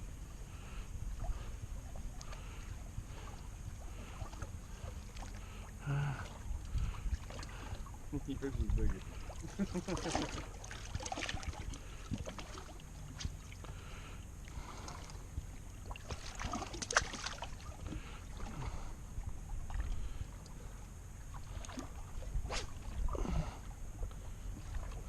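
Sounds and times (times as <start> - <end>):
wind and water rumble: 0.0 - 25.0.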